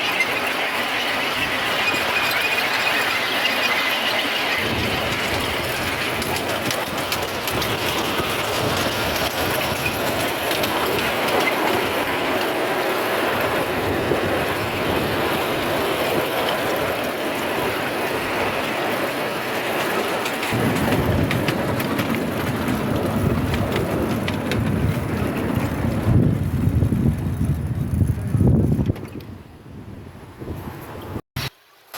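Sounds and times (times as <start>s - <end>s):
miniature train wheels clattering: 0.0s - 29.3s.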